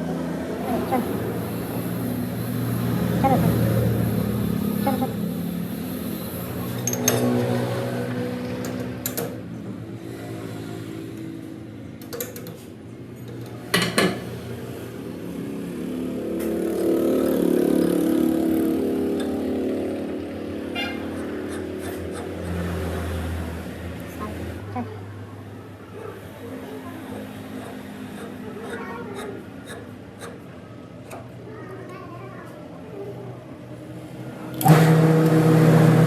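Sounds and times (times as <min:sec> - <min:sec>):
workshop machinery humming: 0:00.0 - 0:36.0.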